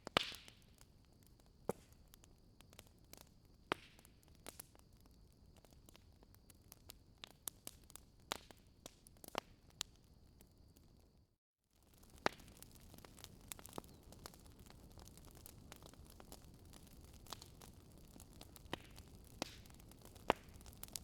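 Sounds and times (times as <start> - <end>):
wood fire crackling: 0.0 - 11.2, 11.8 - 21.0.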